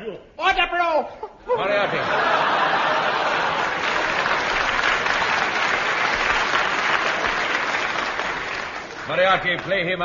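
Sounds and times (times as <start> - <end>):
studio audience applauding: 1.9 - 10.0.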